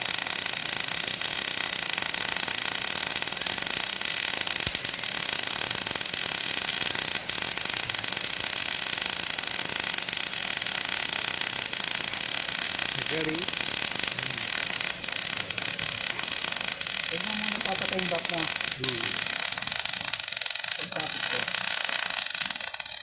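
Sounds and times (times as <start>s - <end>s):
welding arc crackling: 0.0s - 23.0s.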